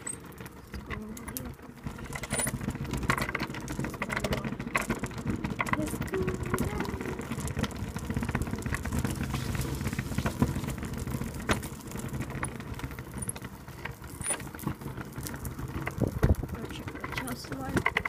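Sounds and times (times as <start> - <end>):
rattles and clicks: 0.0 - 18.0
wheels rumbling on tarmac: 0.0 - 18.0.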